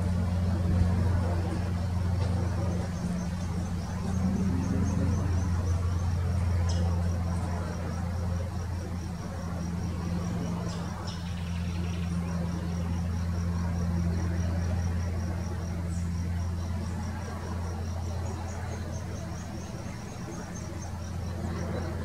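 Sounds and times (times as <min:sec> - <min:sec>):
insect chirping: 0:00.0 - 0:22.0
steady low hum: 0:00.0 - 0:22.0.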